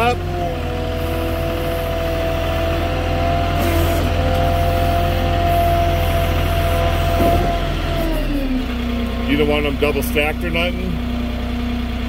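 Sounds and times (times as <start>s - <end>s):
forklift diesel engine running: 0.0s - 12.0s.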